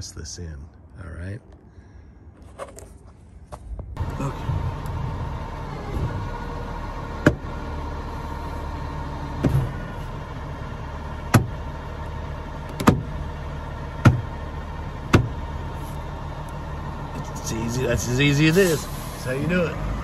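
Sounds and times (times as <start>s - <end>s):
garbage truck engine running: 4.0s - 20.0s.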